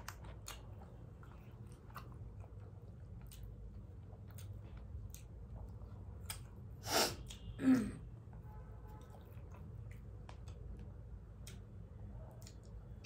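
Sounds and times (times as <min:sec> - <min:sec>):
eating clicks and smacks: 0:00.0 - 0:07.6, 0:09.0 - 0:13.0.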